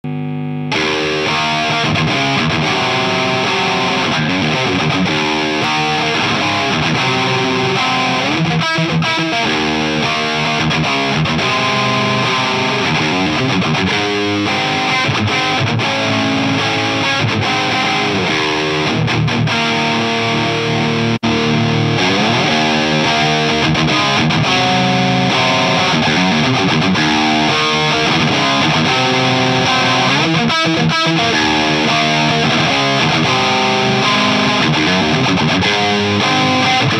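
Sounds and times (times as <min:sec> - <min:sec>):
distorted electric guitar: 0:00.0 - 0:36.9.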